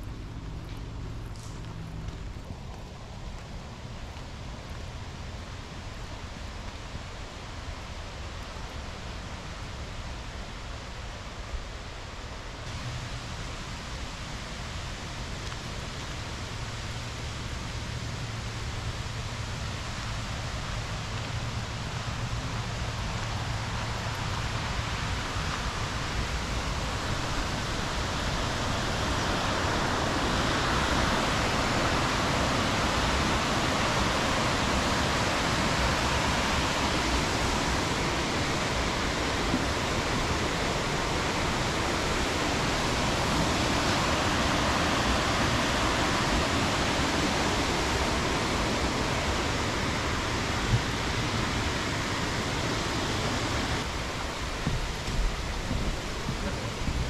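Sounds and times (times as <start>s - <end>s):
waterfall and rapids rushing: 0.0s - 57.0s.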